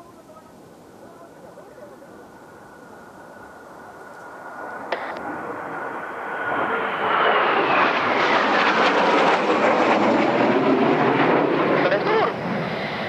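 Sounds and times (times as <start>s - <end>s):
jet aircraft whine and roar: 0.8s - 13.0s.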